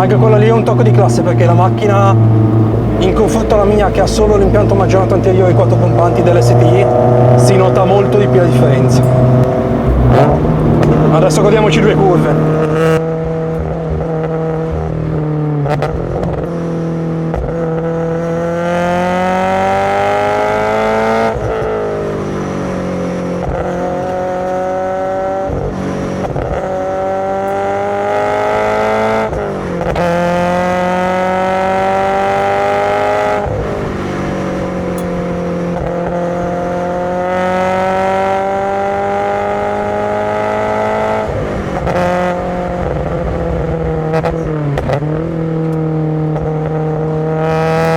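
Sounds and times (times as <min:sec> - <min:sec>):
car engine revving hard: 0:00.0 - 0:47.9.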